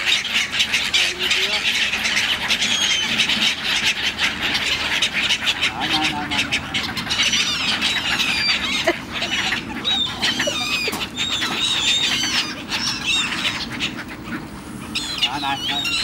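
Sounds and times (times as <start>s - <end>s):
gulls squawking: 0.0s - 16.0s.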